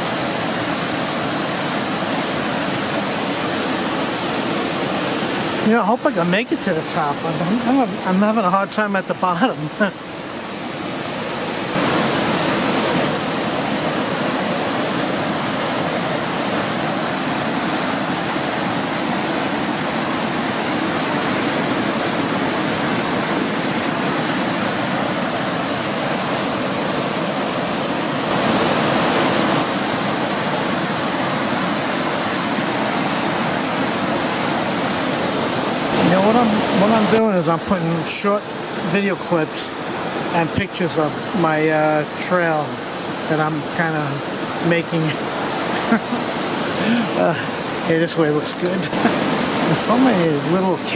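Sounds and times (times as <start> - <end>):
waterfall rushing over rocks: 0.0 - 50.9.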